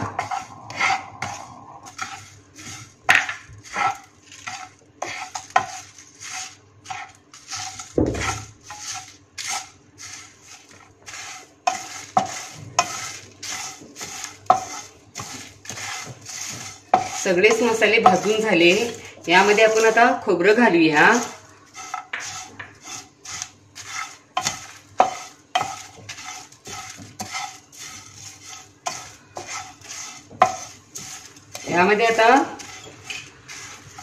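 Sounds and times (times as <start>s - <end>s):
wooden spatula scraping spices in pan: 0.0s - 34.0s.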